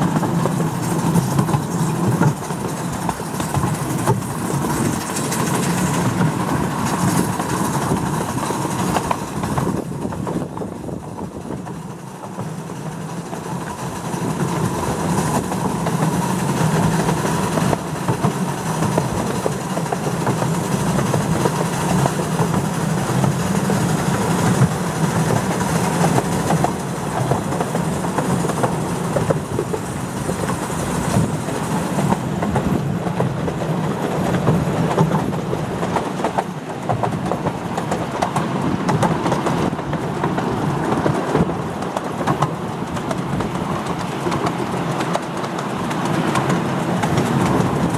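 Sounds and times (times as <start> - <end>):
train carriages running: 0.0 - 47.9
wheels clicking over rail joints: 0.0 - 47.9.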